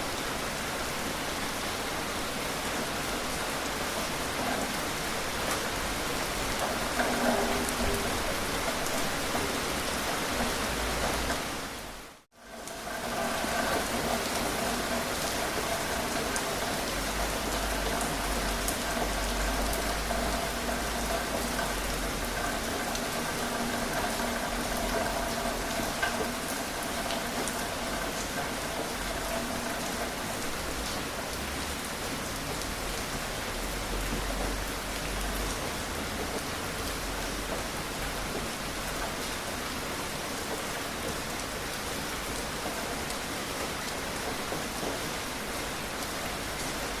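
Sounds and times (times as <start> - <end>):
individual raindrops: 0.0 - 47.0
steady rain falling: 0.0 - 47.0.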